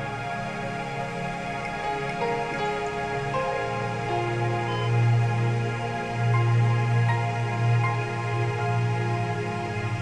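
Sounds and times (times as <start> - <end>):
calm music with long held notes: 0.0 - 10.0.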